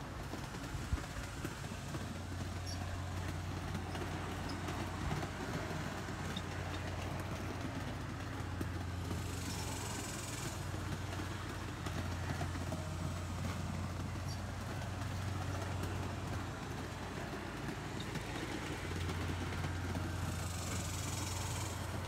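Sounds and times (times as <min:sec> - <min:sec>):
model train motor hum: 0:00.0 - 0:22.0
wheel and rail noise: 0:00.0 - 0:22.0.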